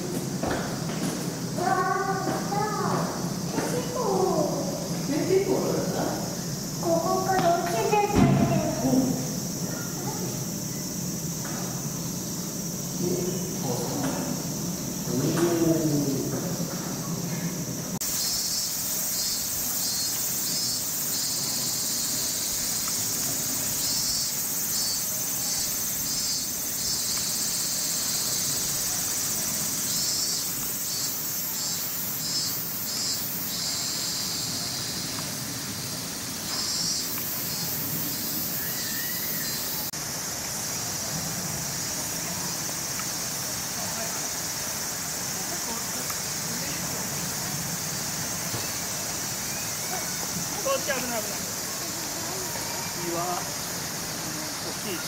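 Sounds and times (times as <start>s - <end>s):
insect trills pulsing: 0.0s - 55.0s
insects droning: 0.0s - 55.0s.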